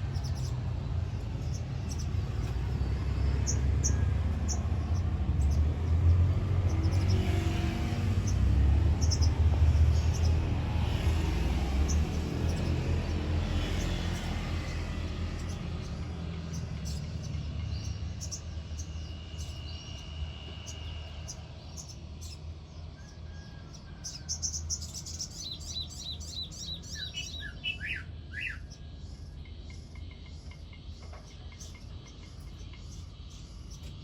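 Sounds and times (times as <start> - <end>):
songbird singing: 0.0 - 34.0.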